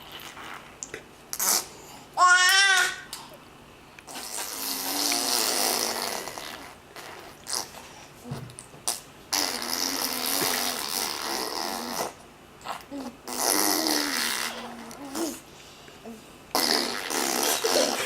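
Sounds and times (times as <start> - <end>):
person making buzzing mouth noises: 0.0 - 1.8, 4.0 - 15.5, 16.1 - 18.0.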